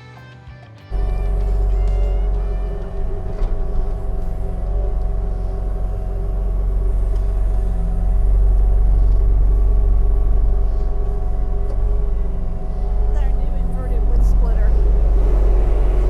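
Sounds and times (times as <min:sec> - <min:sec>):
engine running with deep rumble: 0:00.9 - 0:16.0.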